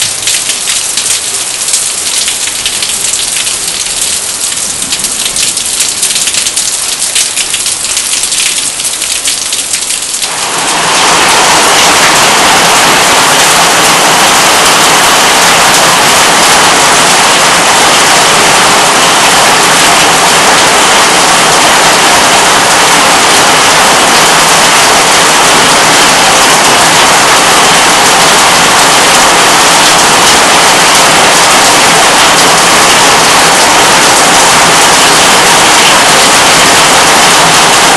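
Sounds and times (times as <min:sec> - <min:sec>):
heavy rain: 0:00.0 - 0:37.9.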